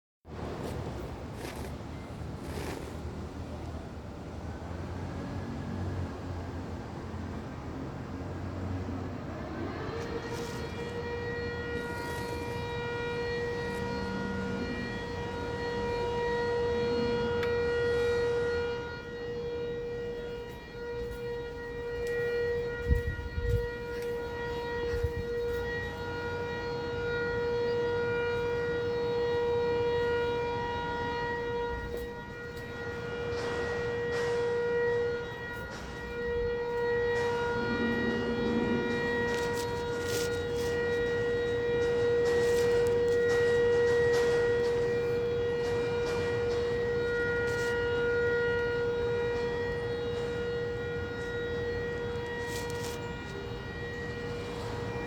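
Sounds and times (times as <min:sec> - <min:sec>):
air-raid siren: 0:00.3 - 0:55.0.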